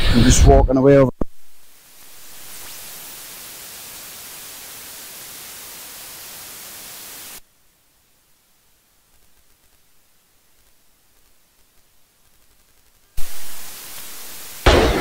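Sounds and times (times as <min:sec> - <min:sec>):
microphone static hiss: 0:00.0 - 0:15.0.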